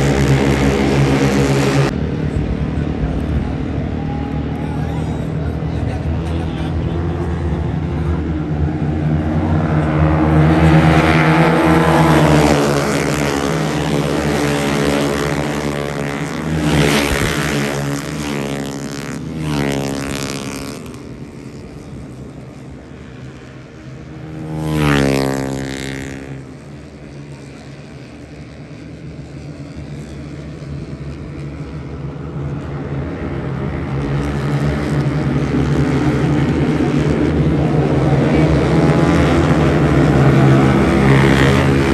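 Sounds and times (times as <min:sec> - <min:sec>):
drone of distant motorcycles: 0:00.0 - 0:41.9
racing motorcycles passing: 0:00.0 - 0:41.9.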